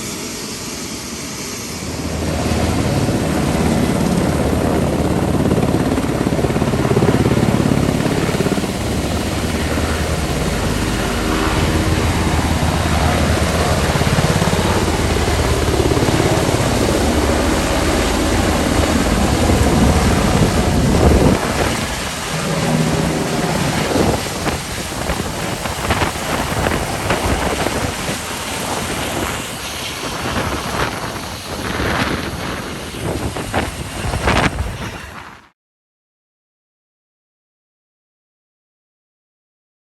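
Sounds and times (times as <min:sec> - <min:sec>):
helicopter rotor and engine: 0:00.0 - 0:35.5.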